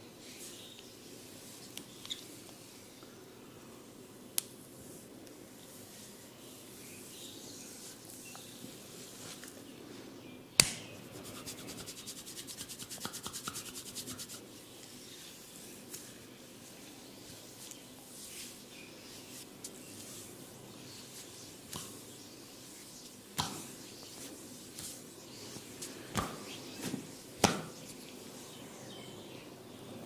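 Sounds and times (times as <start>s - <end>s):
soft rubbing of hair and scalp: 0.2s - 3.0s, 3.8s - 10.1s, 11.0s - 29.0s.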